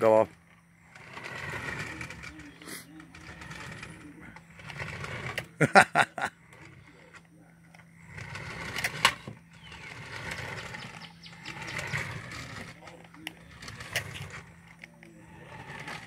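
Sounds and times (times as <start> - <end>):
toy car electric motor whining: 0.0 - 16.0.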